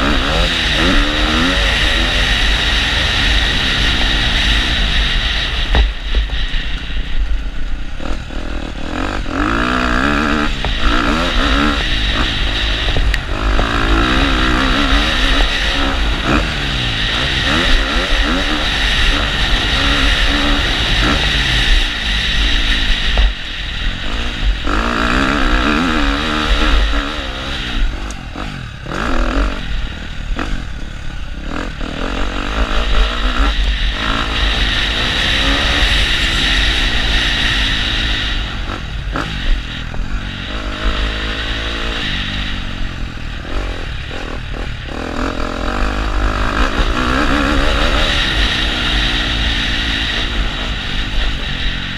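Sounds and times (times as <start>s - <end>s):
motocross engine revving: 0.0s - 51.9s.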